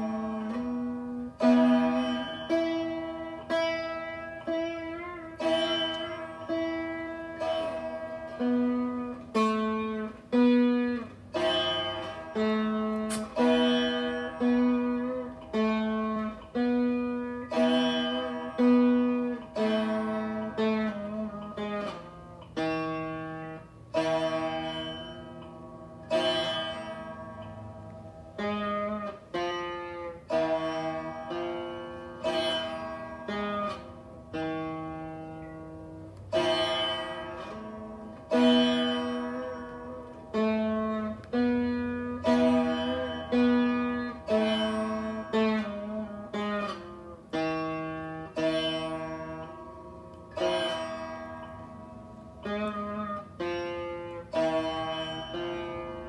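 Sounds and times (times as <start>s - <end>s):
plucked string instrument: 0.0s - 56.0s.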